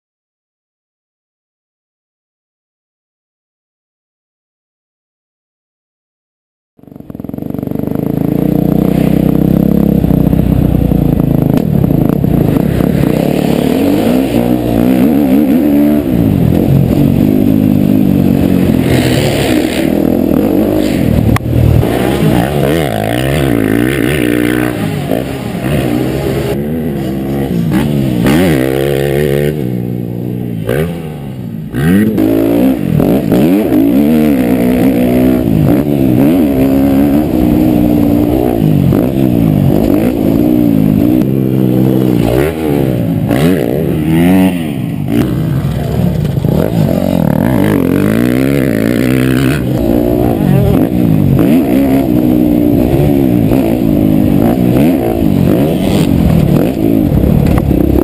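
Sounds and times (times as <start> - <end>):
motocross bike engine revving: 6.8 - 58.0.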